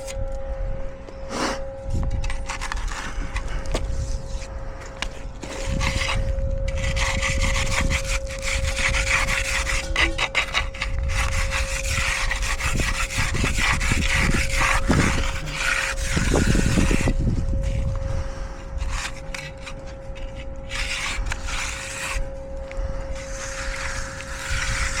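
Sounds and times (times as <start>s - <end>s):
faint steady hum: 0.0s - 25.0s
tool scraping fresh concrete: 1.2s - 25.0s.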